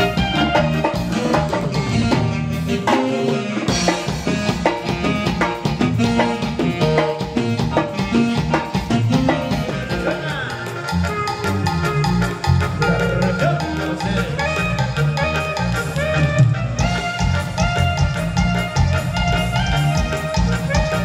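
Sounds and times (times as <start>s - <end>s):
live band playing latin dance music: 0.0s - 21.0s.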